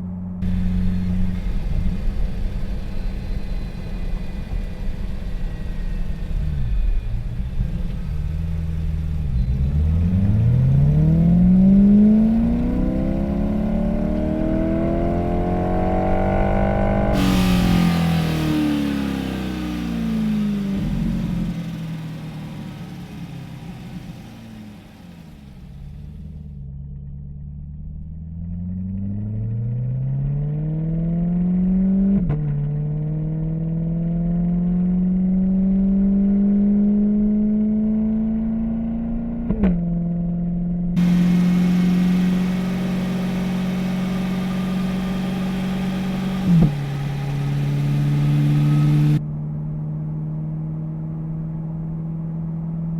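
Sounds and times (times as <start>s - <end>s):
car engine revving through gears: 0.4s - 26.5s, 28.3s - 49.2s.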